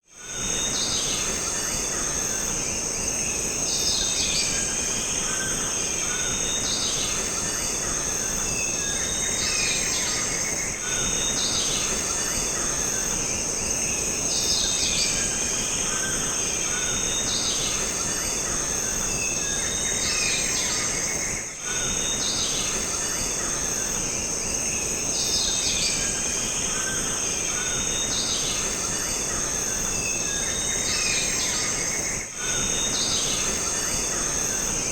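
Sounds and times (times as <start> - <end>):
insect drone: 0.1 - 34.9.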